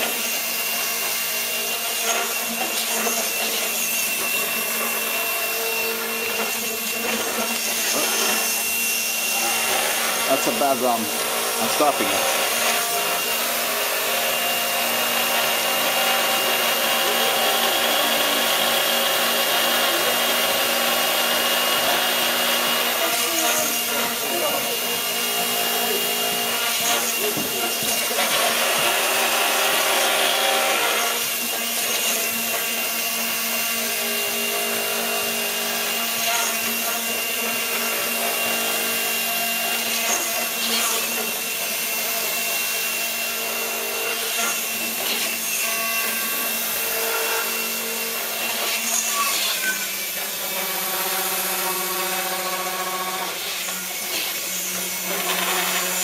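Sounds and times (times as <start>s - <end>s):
electric motors whirring: 0.0s - 56.0s.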